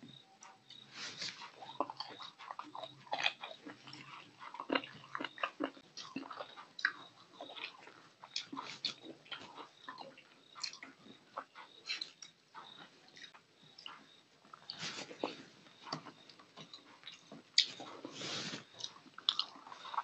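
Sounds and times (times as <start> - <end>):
man chewing and lip-smacking: 0.4 - 20.0.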